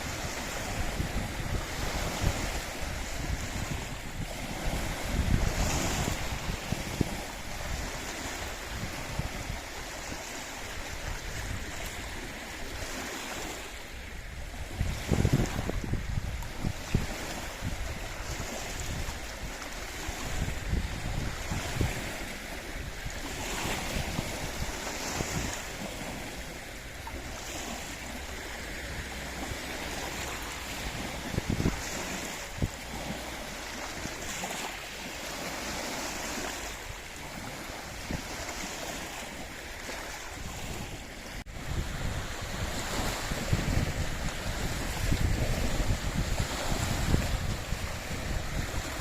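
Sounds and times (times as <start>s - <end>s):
small waves washing in: 0.0s - 49.0s
wind buffeting microphone: 0.0s - 49.0s.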